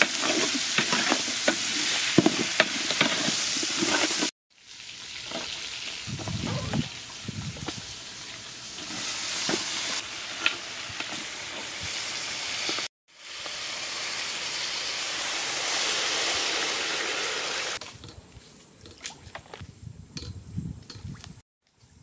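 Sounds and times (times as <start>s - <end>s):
hissing cooking pot: 0.0s - 17.8s.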